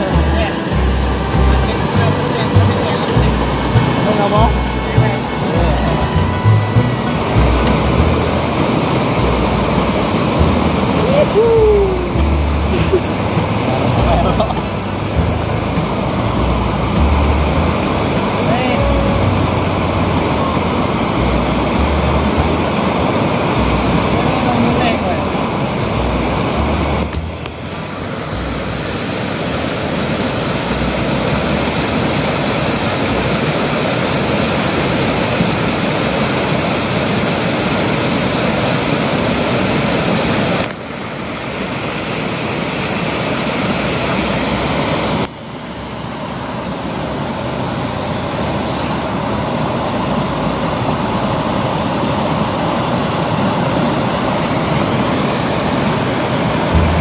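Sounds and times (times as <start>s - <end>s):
water rushing at a dam: 0.0s - 57.0s.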